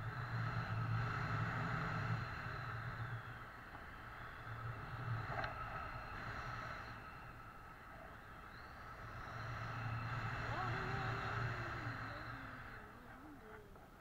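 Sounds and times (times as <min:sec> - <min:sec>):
wind rushing over microphone: 0:00.0 - 0:13.4.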